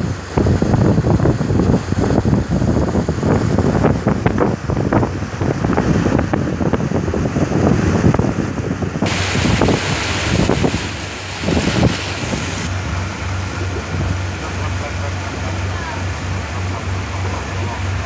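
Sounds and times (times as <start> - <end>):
boat motor running: 0.0 - 18.0
water rushing along hull: 0.0 - 18.0
wind buffeting microphone: 0.0 - 18.0.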